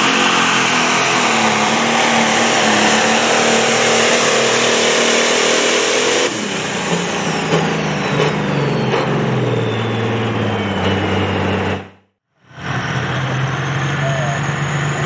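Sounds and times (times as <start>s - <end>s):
diesel tractor engine: 0.0s - 15.0s
turbocharger whine: 0.0s - 15.0s.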